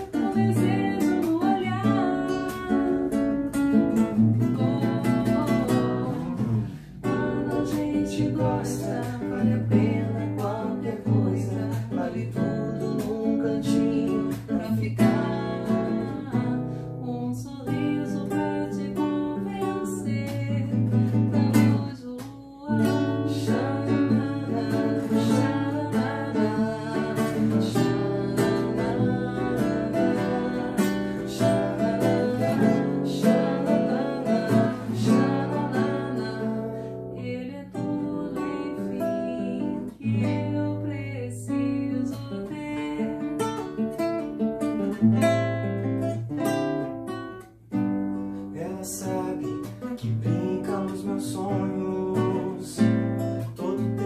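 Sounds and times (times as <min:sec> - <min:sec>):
nylon-string guitar playing: 0:00.0 - 0:54.0.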